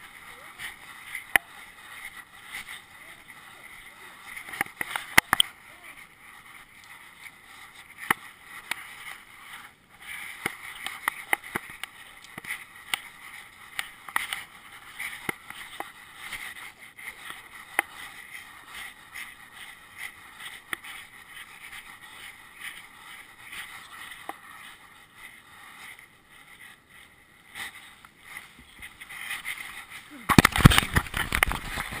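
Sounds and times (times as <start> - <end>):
camera handling rubbing: 4.2 - 5.6, 6.4 - 32.0.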